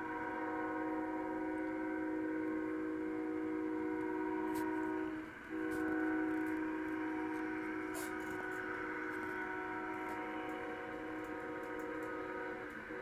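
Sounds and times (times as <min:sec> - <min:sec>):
locomotive air horn chord: 0:00.0 - 0:13.0.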